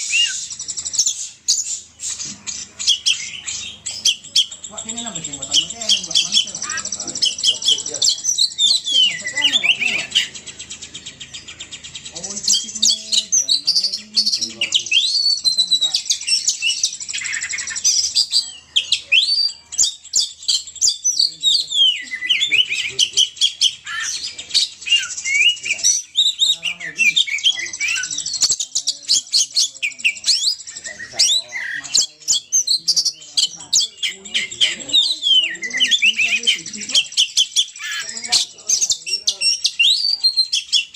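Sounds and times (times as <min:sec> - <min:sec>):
bird chirping and twittering: 0:00.0 - 0:40.9.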